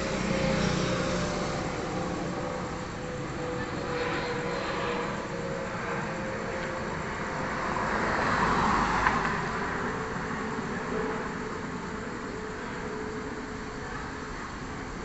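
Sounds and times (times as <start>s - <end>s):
jet airliner passing: 0.0s - 13.0s.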